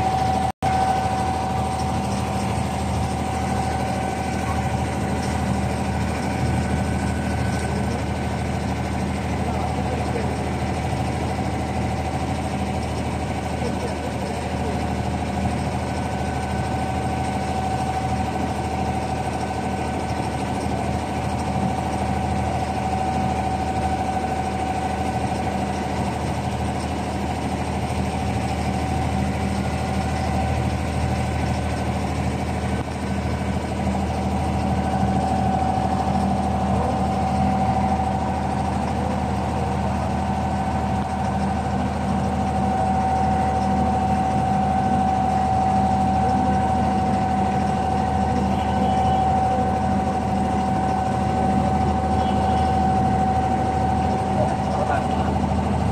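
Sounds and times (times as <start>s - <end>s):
boat diesel engine drone: 0.0s - 55.9s
thin steady whine: 0.0s - 55.9s.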